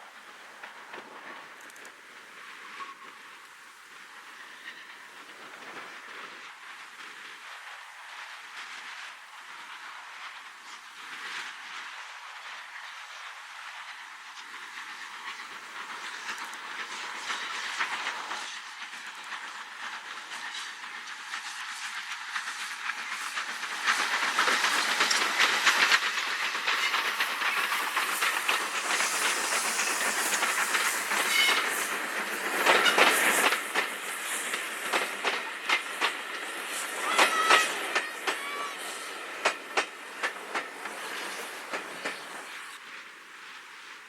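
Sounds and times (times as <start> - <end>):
steady hiss: 0.0 - 44.0
train passing: 0.0 - 44.0
wheels clacking on rails: 0.0 - 44.0.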